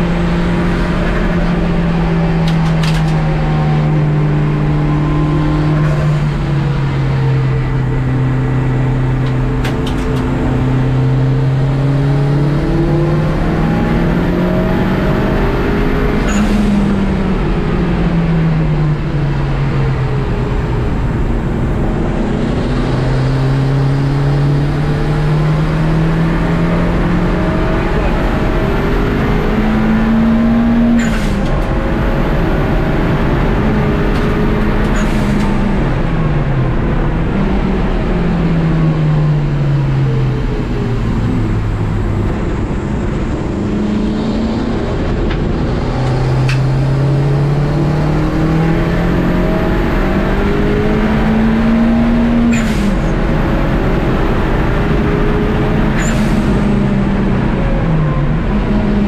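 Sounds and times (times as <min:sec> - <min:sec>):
racing car engine revving: 0:00.0 - 0:59.0
road and cabin noise: 0:00.0 - 0:59.0.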